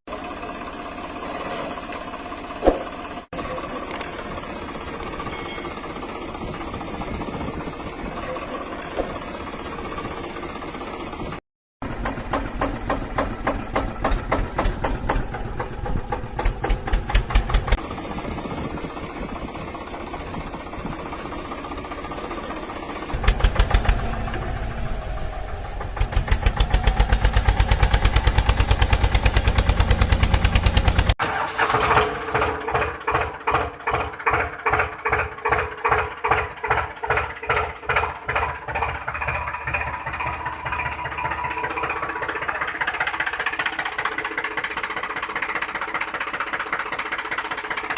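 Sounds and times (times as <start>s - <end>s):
tractor engine running: 0.1s - 47.9s.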